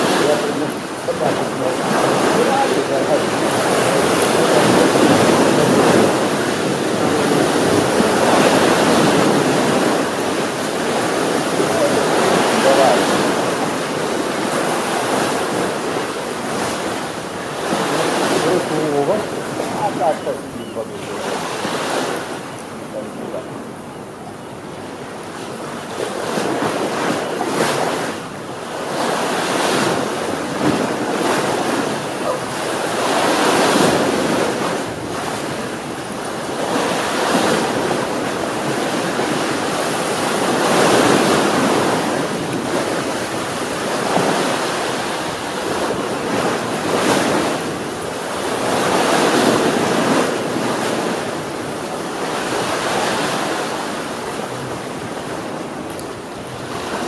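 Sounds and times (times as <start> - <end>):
sea waves washing onto shore: 0.0 - 57.0
wind: 0.0 - 57.0.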